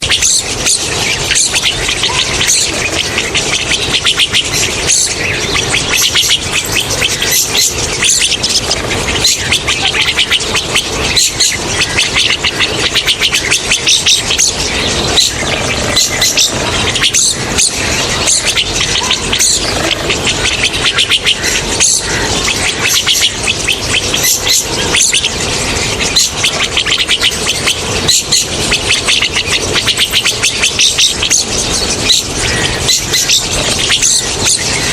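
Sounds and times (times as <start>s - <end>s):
starlings chattering: 0.0s - 34.9s.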